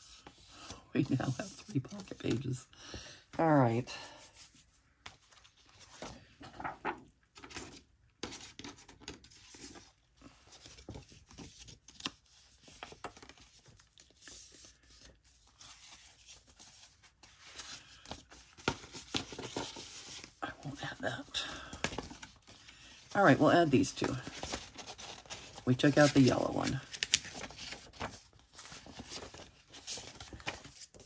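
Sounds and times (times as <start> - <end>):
paper rustling and crinkling: 4.1 - 31.0.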